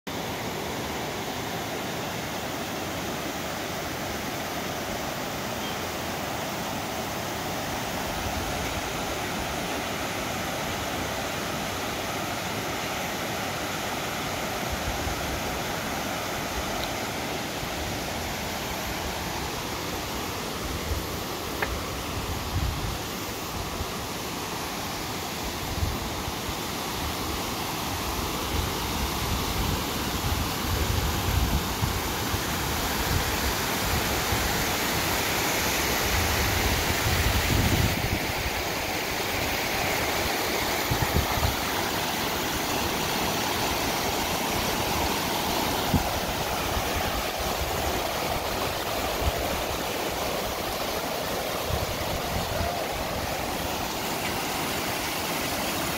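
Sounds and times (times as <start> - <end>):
water rushing over stones: 0.1 - 55.9.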